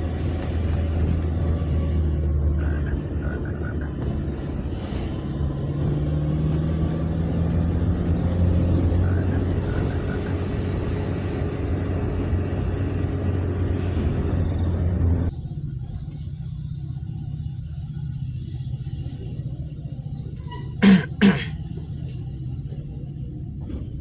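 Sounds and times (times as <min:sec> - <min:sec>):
engine and road noise drone: 0:00.0 - 0:24.0.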